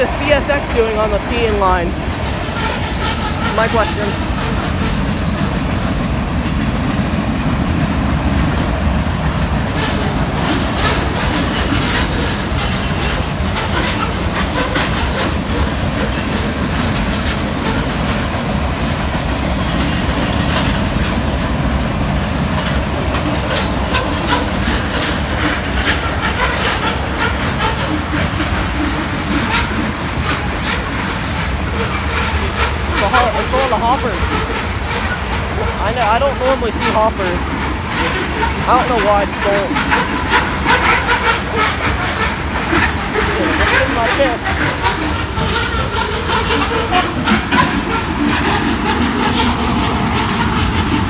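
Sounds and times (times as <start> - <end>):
train wheels rumbling on rail: 0.0 - 51.0
wheels clacking over rail joints: 0.0 - 51.0.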